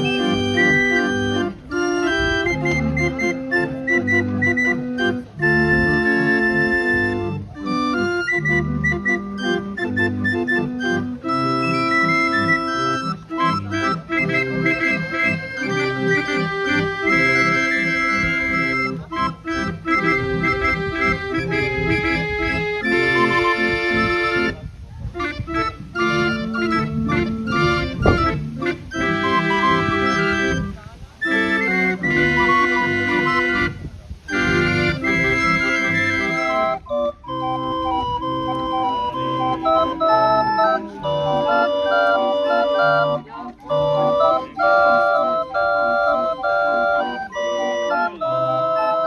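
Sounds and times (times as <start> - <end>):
barrel organ playing a tune: 0.0 - 49.0.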